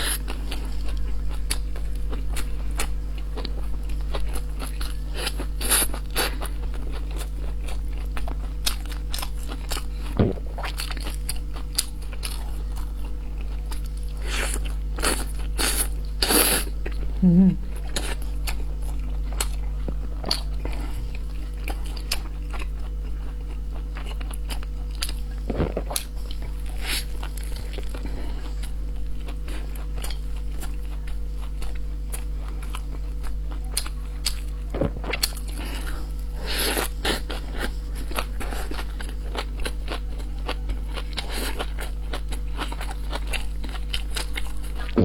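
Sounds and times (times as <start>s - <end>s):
person chewing food: 0.0s - 45.0s
steady low hum: 0.0s - 45.0s.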